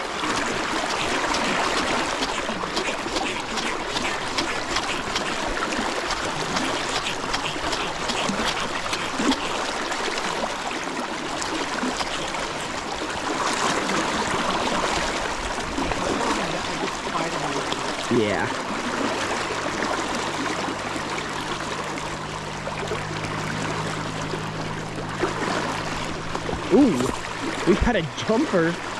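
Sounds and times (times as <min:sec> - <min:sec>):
river water rushing: 0:00.0 - 0:28.9.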